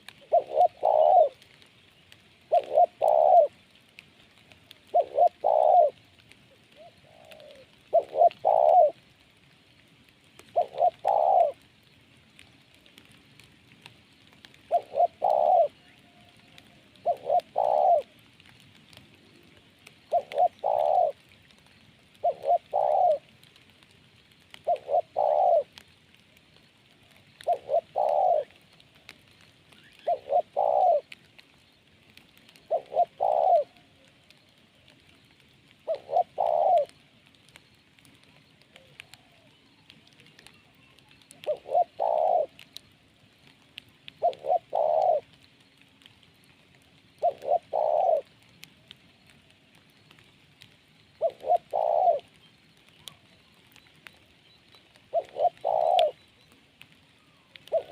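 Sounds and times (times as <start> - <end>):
dove cooing: 0.0 - 1.6, 2.4 - 9.1, 10.3 - 11.7, 14.4 - 23.7, 24.4 - 26.3, 26.9 - 31.4, 32.4 - 37.3, 38.1 - 42.9, 43.5 - 45.5, 46.8 - 57.9.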